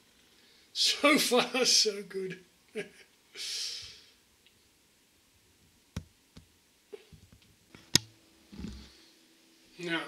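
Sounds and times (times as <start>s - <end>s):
soft hiss: 0.0s - 10.0s.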